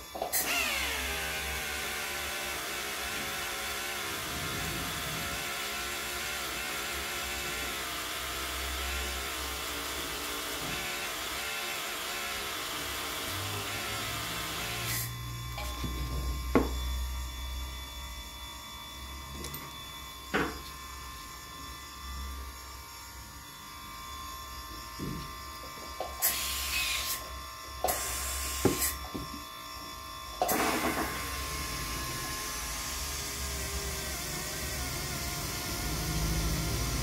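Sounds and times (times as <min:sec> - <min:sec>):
dental equipment hum: 0:00.0 - 0:37.0.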